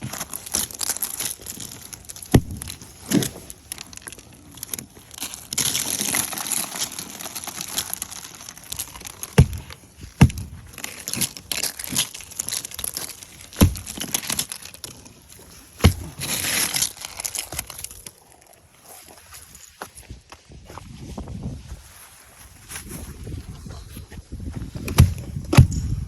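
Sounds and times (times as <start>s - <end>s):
ice scraping and crunching: 0.0s - 26.0s.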